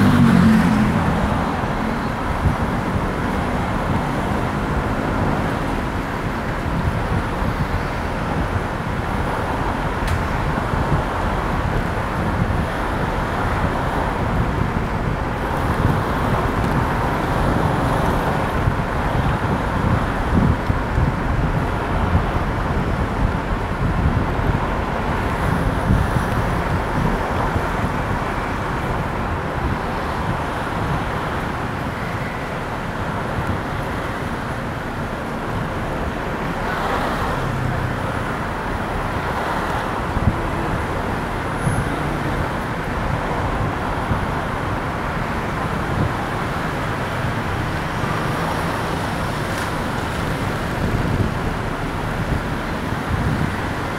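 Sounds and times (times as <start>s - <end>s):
car road noise from inside: 0.0s - 53.9s.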